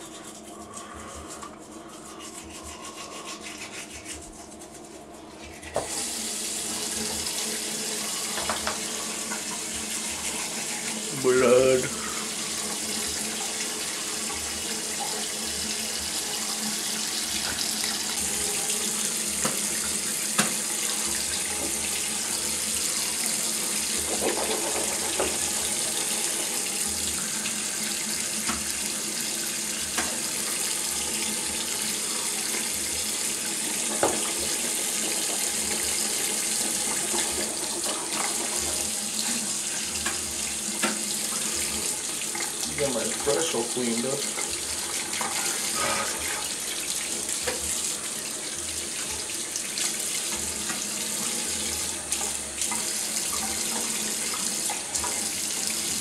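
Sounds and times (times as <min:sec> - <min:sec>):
faucet running into sink: 0:05.7 - 0:56.0.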